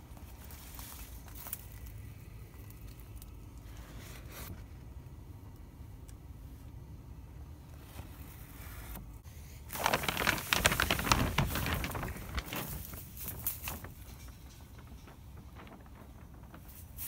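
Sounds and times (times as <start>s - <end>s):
crinkly rustling and crackling: 0.0s - 4.7s, 7.8s - 17.0s.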